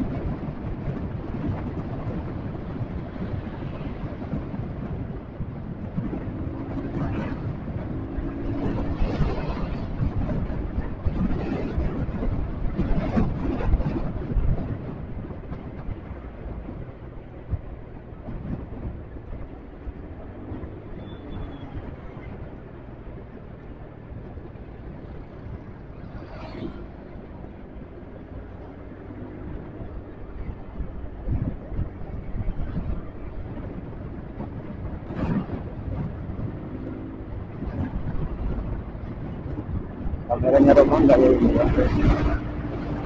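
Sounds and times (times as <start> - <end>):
motorcycle engine and road rumble: 0.0 - 43.0
wind rushing over microphone: 0.0 - 43.0.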